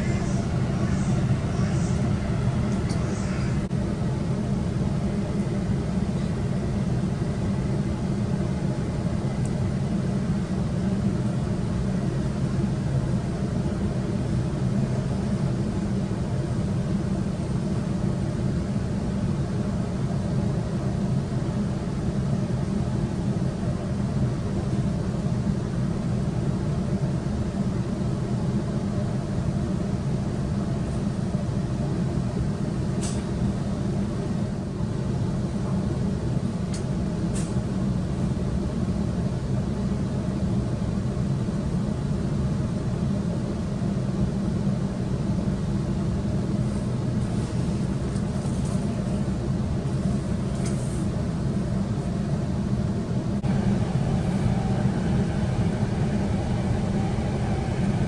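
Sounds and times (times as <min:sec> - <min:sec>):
train carriage rumbling: 0:00.0 - 0:58.0.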